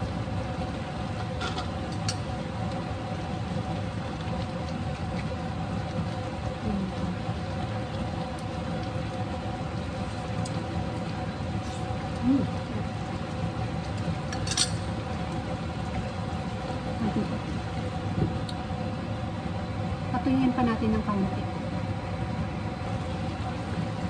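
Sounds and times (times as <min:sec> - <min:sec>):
food bubbling in a pan: 0:00.0 - 0:24.0.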